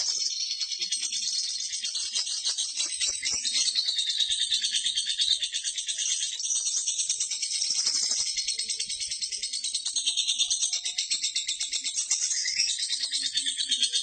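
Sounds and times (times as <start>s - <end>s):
lovebird chattering: 0.0s - 14.0s.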